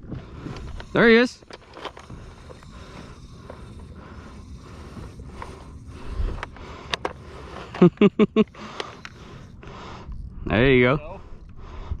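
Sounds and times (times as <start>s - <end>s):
fishing gear clicks and scrapes: 0.0s - 10.2s
wind: 0.0s - 12.0s.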